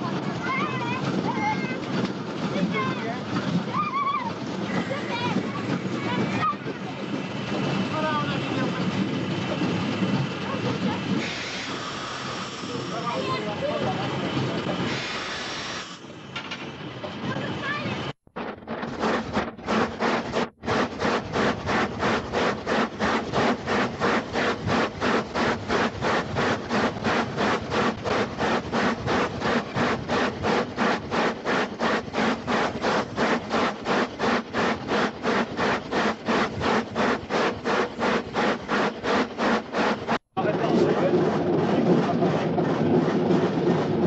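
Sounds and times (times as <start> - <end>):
steam locomotive chuffing: 0.0 - 44.0.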